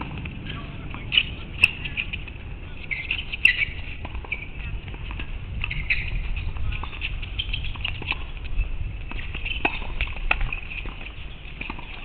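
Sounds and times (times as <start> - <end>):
tennis ball bouncing: 0.0 - 2.3, 2.9 - 12.0
steady low rumble: 0.0 - 12.0.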